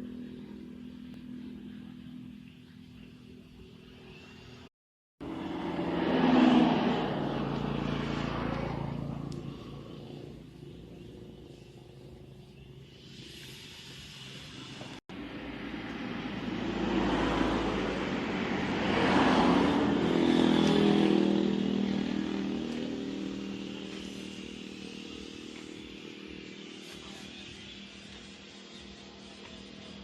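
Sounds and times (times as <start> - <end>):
motorcycle passing by: 0.0 - 30.0.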